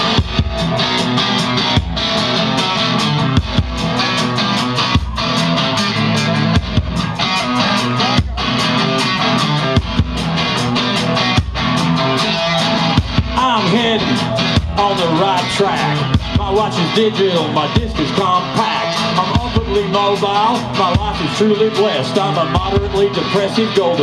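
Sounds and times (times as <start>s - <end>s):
drum accents: 0.0s - 24.0s
rock band playing: 0.0s - 24.0s.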